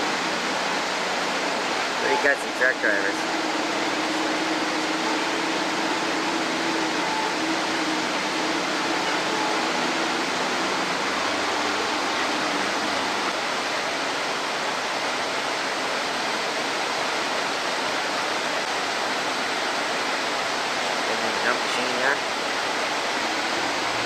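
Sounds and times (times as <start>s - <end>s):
faint low engine hum: 0.0s - 24.0s
steady rushing noise: 0.0s - 24.0s.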